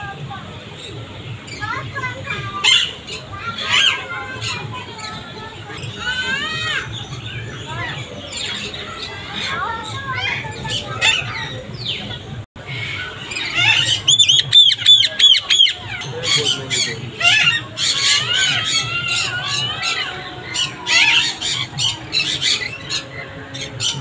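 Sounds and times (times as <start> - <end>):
parrots squawking and chattering: 0.8 - 24.0.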